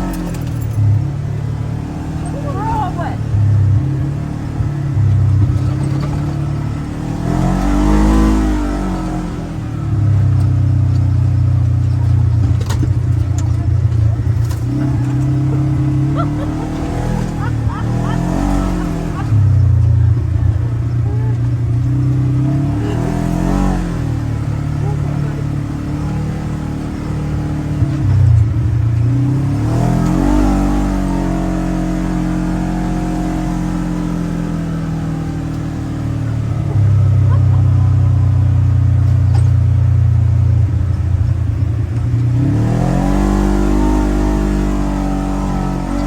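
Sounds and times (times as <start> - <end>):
vehicle engine revving: 0.0 - 46.0.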